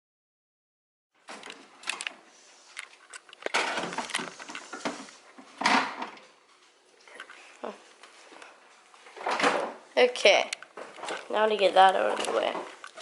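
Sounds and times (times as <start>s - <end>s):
objects being handled: 1.2s - 9.8s, 10.5s - 13.0s.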